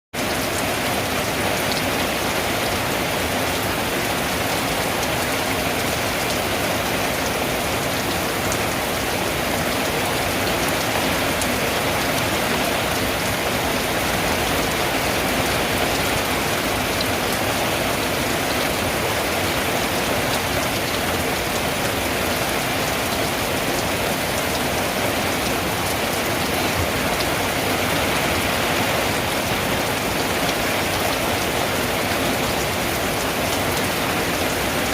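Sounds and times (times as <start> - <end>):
rain on a tin roof: 0.1 - 34.9.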